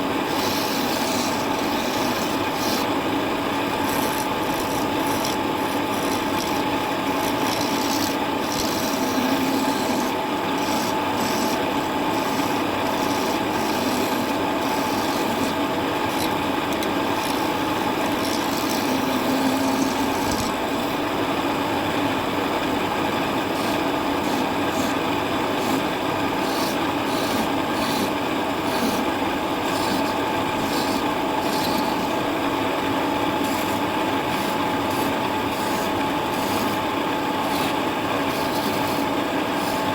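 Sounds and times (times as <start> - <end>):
lathe tool scraping wood: 0.0 - 3.0, 3.8 - 21.0, 23.1 - 39.9
lathe motor hum: 0.0 - 39.9.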